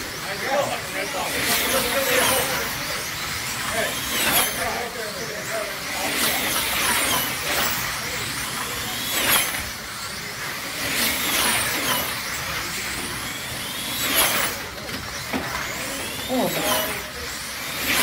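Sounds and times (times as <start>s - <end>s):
slot car motors whining: 0.0s - 18.0s.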